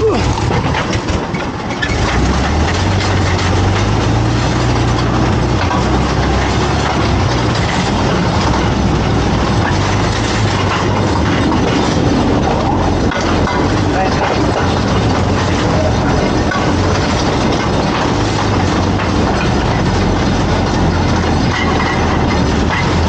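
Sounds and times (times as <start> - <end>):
rail vehicle engine running: 0.0 - 23.0
train rumbling on rails: 0.0 - 23.0.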